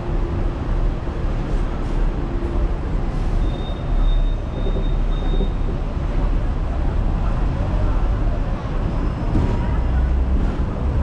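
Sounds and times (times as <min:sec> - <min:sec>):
tram rumbling and rattling on track: 0:00.0 - 0:11.0.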